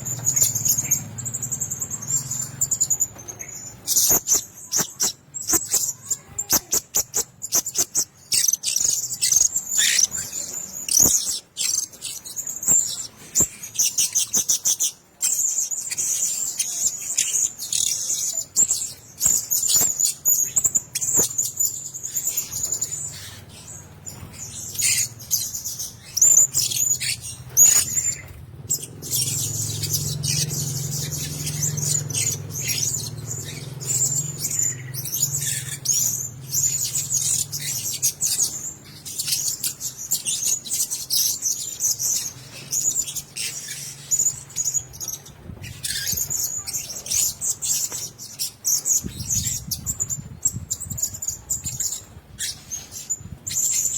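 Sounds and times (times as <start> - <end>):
parrots chirping and twittering: 0.0 - 53.9.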